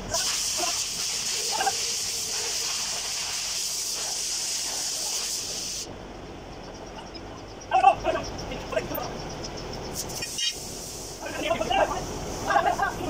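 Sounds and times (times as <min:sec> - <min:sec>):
high-pitched hiss: 0:00.0 - 0:05.9, 0:06.5 - 0:13.0.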